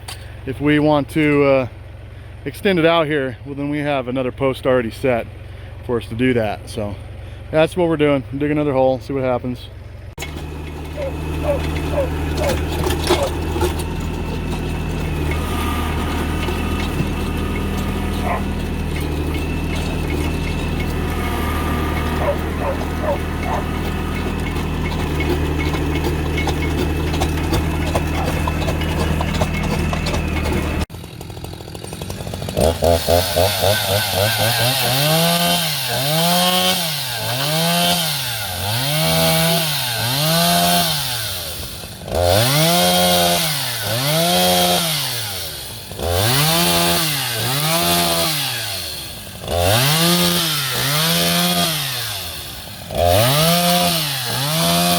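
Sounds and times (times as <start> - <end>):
steady engine hum: 0.0 - 54.9
two-stroke engine bogging: 0.0 - 54.9.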